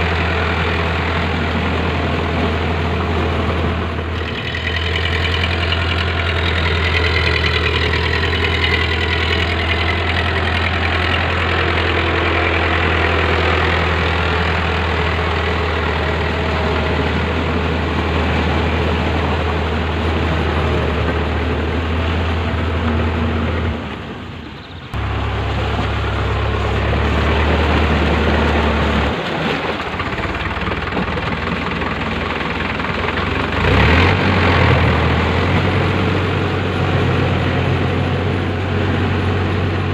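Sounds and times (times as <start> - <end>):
blades churning and splashing in mud: 0.0 - 24.1, 25.0 - 39.9
tractor diesel engine running: 0.0 - 39.9.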